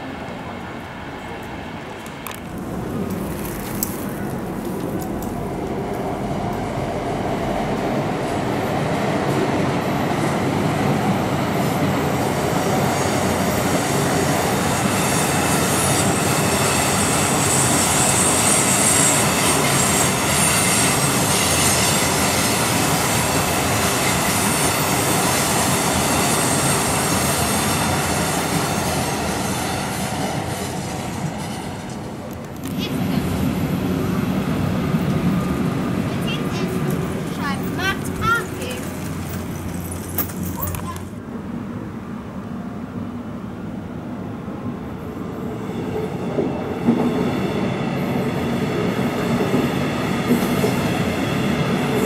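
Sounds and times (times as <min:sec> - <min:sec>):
train wheels rumbling on rails: 0:00.0 - 0:41.2, 0:43.8 - 0:52.0.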